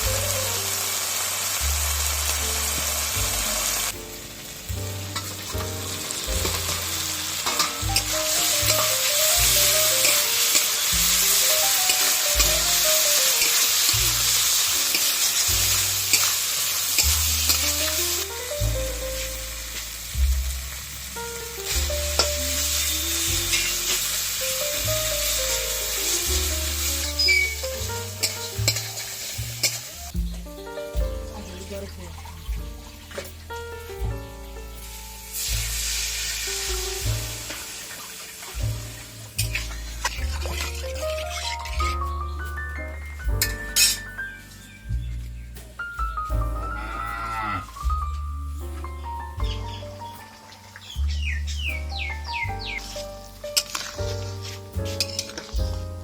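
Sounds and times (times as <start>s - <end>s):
background music: 0.0s - 56.0s
food sizzling in hot oil: 0.0s - 56.0s.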